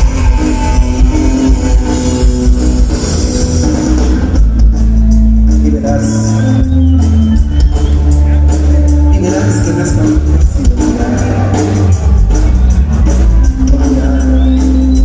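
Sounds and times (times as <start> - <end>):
drum kit: 0.0 - 15.0
live band playing: 0.0 - 15.0.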